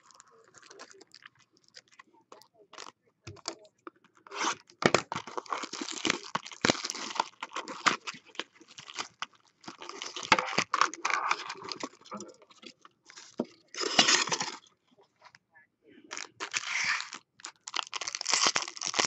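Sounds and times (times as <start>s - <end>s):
plastic wrap crinkling and tearing: 0.0s - 2.0s, 4.2s - 14.7s, 16.1s - 19.0s.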